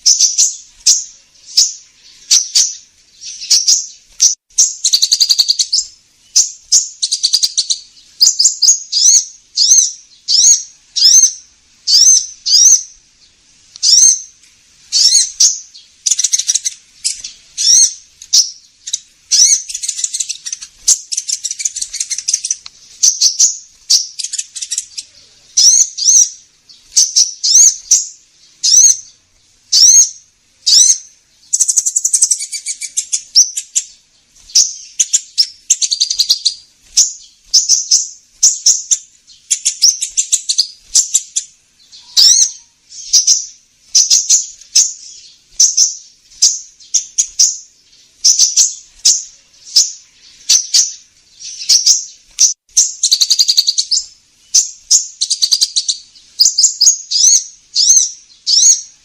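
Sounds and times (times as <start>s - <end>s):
bird chirps and buzzy trills: 0.0s - 59.0s.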